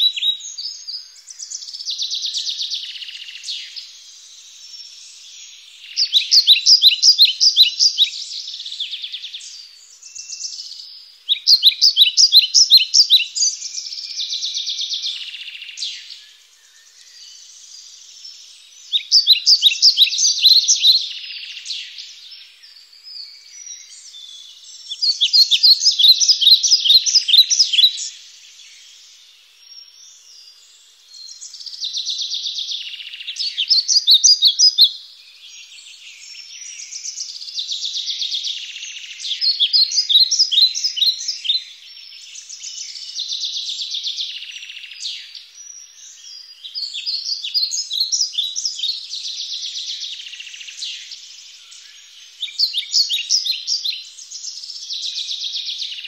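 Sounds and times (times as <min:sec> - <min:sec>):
soft bird chirping: 0:00.0 - 0:56.0.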